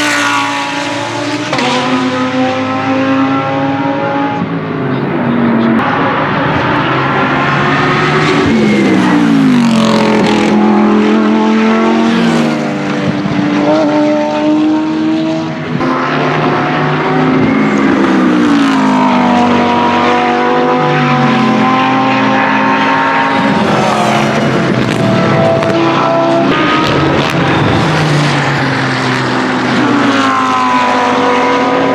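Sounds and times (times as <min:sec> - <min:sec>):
race car engine at high revs: 0:00.0 - 0:31.9.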